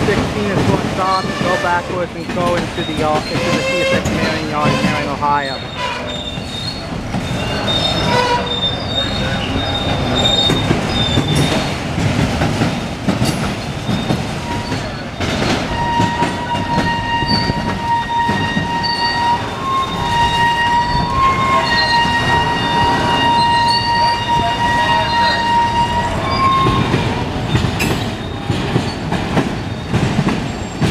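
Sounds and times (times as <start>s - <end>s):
freight train rumbling past: 0.0s - 30.9s
wheels squealing: 2.3s - 11.9s, 13.5s - 30.9s.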